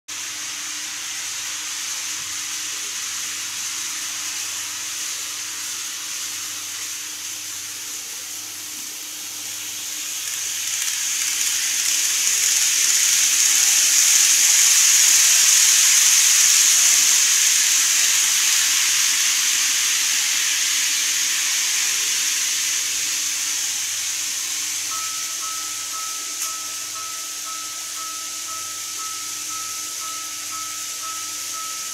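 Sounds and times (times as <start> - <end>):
model train hissing past: 0.1 - 31.9.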